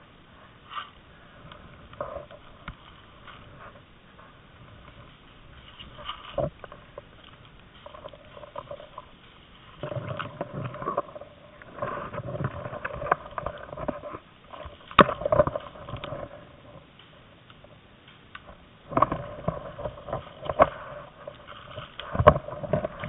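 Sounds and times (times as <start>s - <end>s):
dry leaves and twigs rustling: 0.0s - 23.0s.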